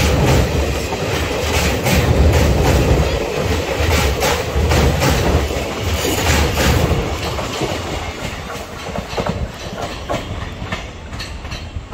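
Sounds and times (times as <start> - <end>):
clacks at rail joints: 0.0 - 11.9
train wheels rumbling on bridge: 0.0 - 11.9.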